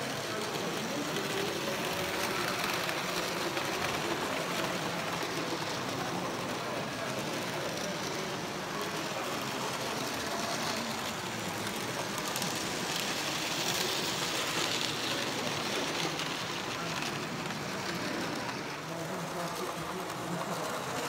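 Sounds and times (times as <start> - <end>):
model train rattling whirr: 0.0 - 21.0.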